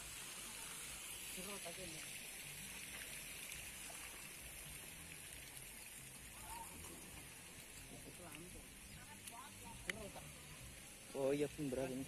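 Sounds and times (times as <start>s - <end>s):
distant running water: 0.0s - 12.0s.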